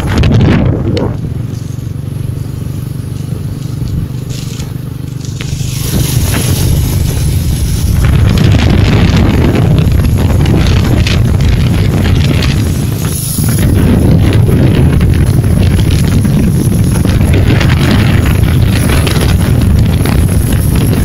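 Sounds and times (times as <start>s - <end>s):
motorcycle engine running: 0.0s - 21.0s
wind buffeting microphone: 0.0s - 21.0s.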